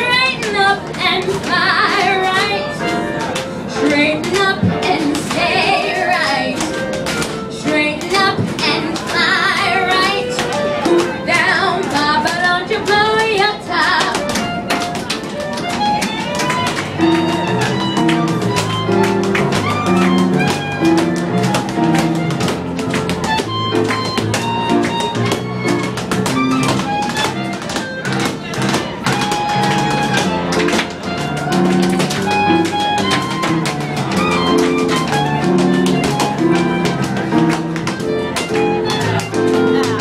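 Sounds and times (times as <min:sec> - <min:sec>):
small band playing swing: 0:00.0 - 0:40.0
tap-dance clicks: 0:00.0 - 0:40.0.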